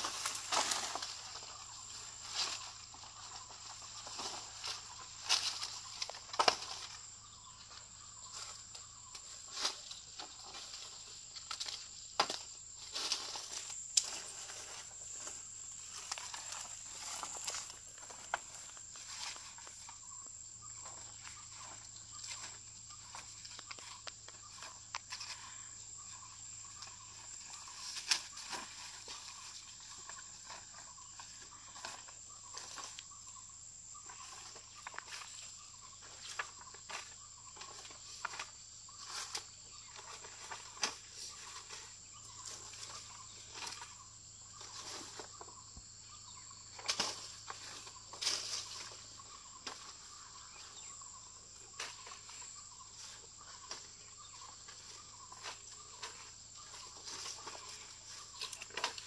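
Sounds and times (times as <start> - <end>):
leaves rustling and crackling: 0.0 - 45.8, 46.6 - 59.0
high insect drone: 0.0 - 59.0.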